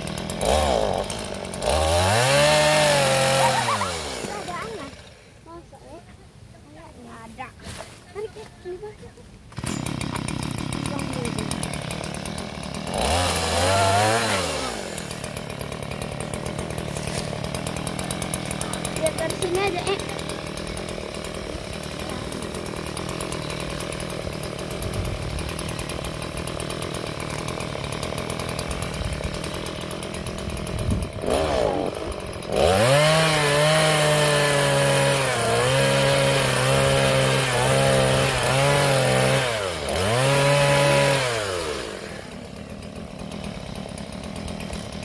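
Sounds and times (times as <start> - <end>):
chainsaw cutting wood: 0.0 - 5.6, 9.4 - 45.0.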